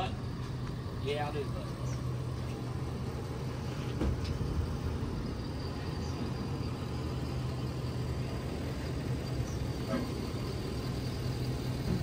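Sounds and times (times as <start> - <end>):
pickup truck engine idling: 0.0 - 12.0.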